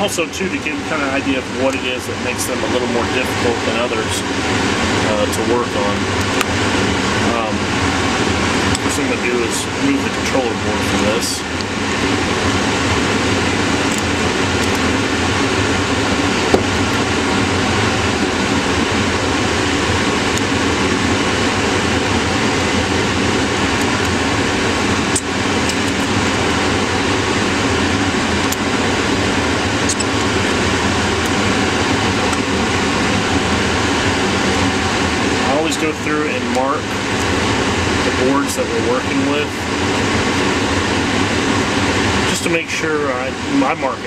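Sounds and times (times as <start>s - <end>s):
fan rushing hum: 0.0s - 44.0s.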